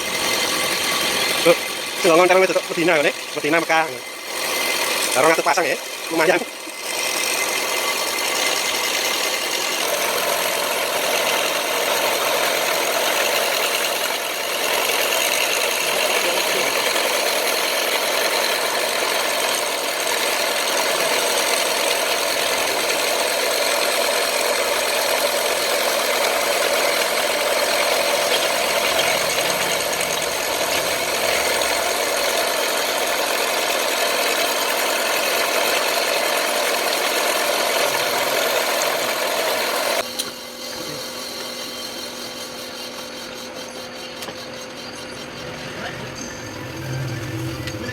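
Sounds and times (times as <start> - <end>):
metalworking power tool running: 0.0 - 47.9.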